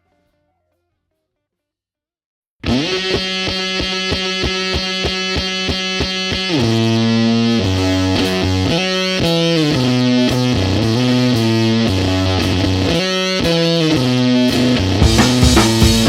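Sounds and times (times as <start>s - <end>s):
rock music with distorted guitar: 2.6s - 16.0s.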